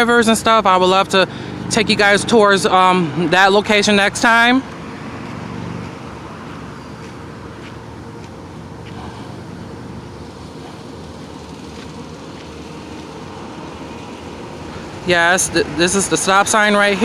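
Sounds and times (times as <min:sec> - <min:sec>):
low engine hum: 0:00.0 - 0:17.0
passing vehicles rushing: 0:00.0 - 0:17.0.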